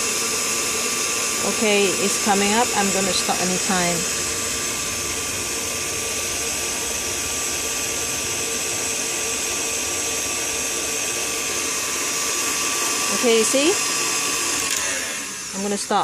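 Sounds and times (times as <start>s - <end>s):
stand mixer whisking in steel bowl: 0.0s - 16.0s.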